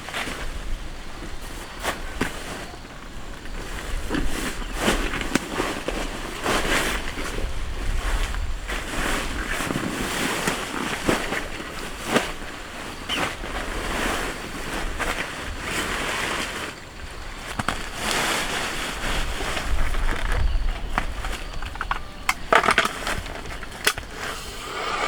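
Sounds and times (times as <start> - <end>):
rain on a tent: 0.0 - 21.4.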